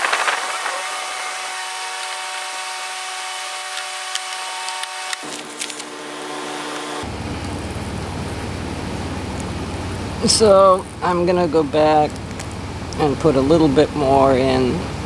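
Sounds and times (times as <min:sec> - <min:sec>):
plastic welder scraping: 0:00.0 - 0:12.5
steady hiss and hum: 0:00.0 - 0:15.0.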